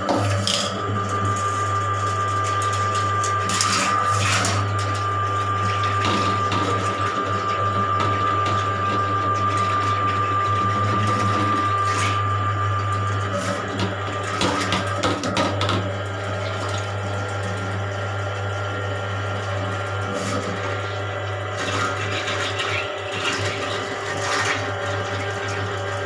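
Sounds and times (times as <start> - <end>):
drain cleaning machine motor humming: 0.0 - 26.0
water splashing down a drain: 0.1 - 18.1, 19.3 - 26.0.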